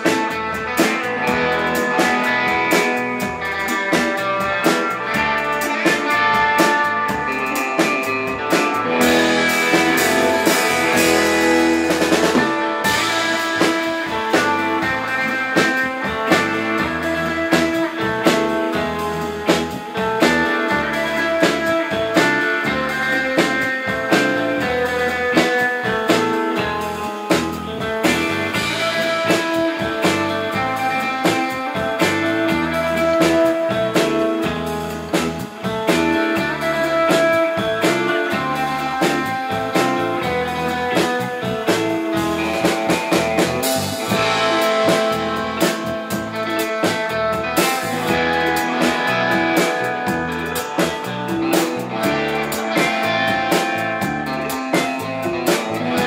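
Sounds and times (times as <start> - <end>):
drum kit steady beat: 0.0 - 56.0
electric bass: 0.0 - 56.0
electric guitar lead melody: 0.0 - 56.0.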